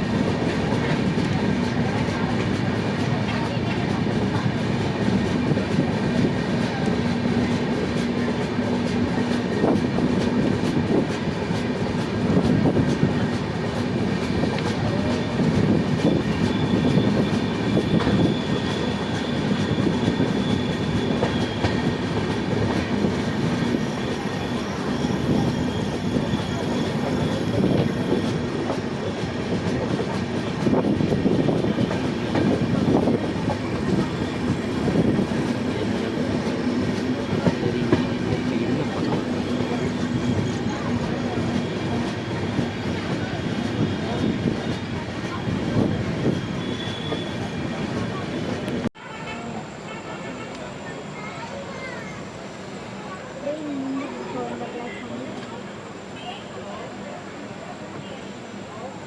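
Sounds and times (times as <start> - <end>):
train wheels rumbling on rails: 0.0 - 49.7.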